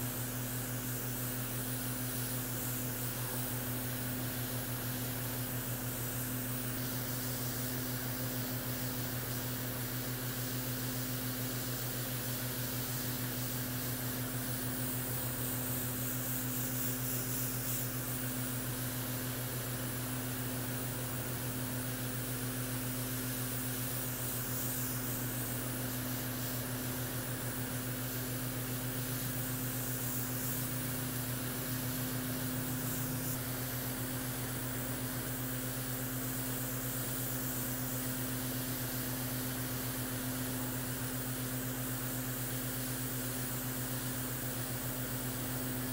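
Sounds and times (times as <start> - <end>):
air compressor humming: 0.0 - 45.9
airbrush spraying hiss: 0.0 - 45.9.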